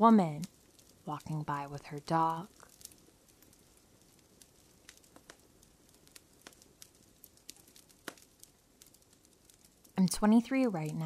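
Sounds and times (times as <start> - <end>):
campfire crackling: 0.0 - 11.0
low steady hiss: 0.0 - 11.0.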